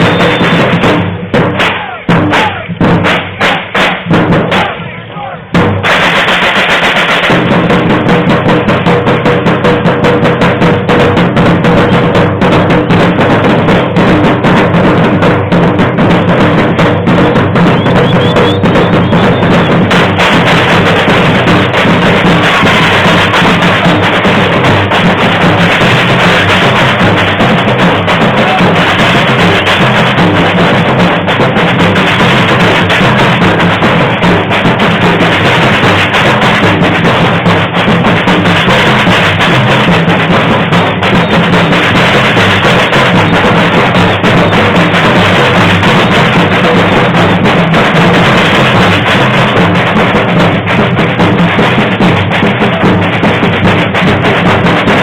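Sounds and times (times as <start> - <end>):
deep bass drums: 0.0 - 4.8, 5.5 - 55.0
samba percussion ensemble: 0.0 - 55.0.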